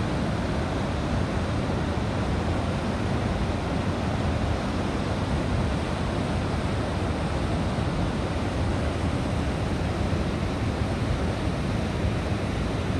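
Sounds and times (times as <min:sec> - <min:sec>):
stream rushing through rock gorge: 0:00.0 - 0:12.9.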